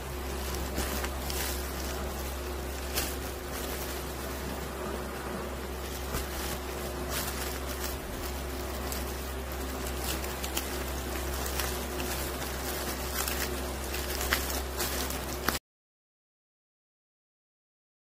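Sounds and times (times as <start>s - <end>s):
plastic wrap crinkling: 0.0s - 15.6s
steady low hum: 0.0s - 15.6s.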